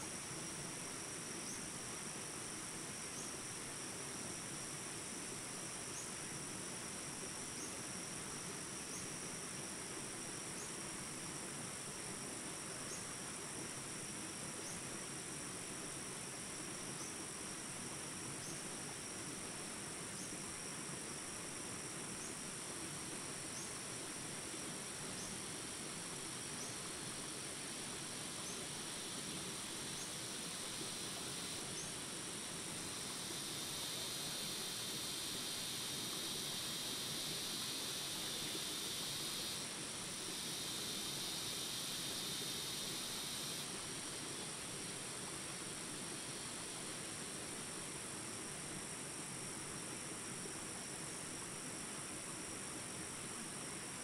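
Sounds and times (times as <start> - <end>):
rising insect chirp: 0.0 - 48.4
insects droning: 0.0 - 54.0
rural background hiss: 0.0 - 54.0.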